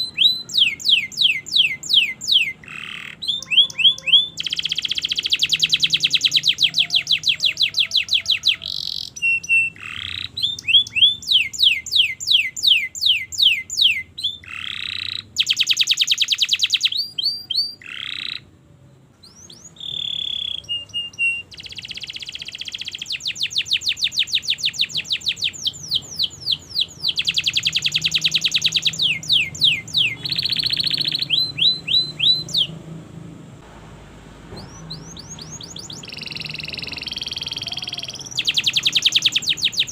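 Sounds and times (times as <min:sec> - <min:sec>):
canary singing: 0:00.0 - 0:33.0, 0:34.5 - 0:39.9.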